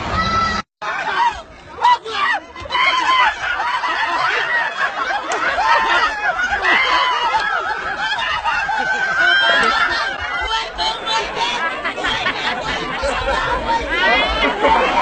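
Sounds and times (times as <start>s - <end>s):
people laughing and giggling: 2.8s - 15.0s.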